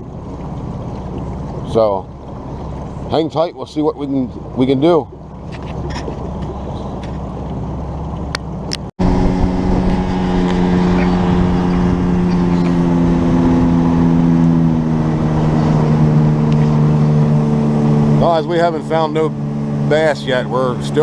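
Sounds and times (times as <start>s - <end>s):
boat engine humming: 0.0s - 21.0s
low rumble: 4.2s - 21.0s.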